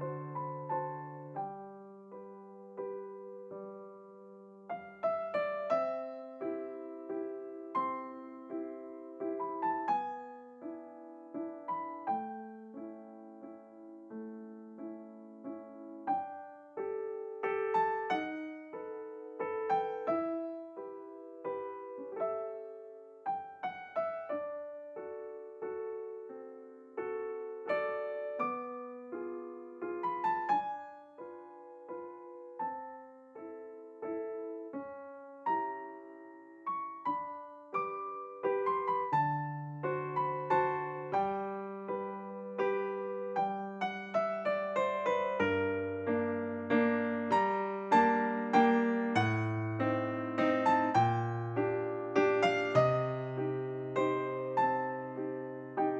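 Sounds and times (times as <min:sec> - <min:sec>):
solo piano music: 0:00.0 - 0:55.9.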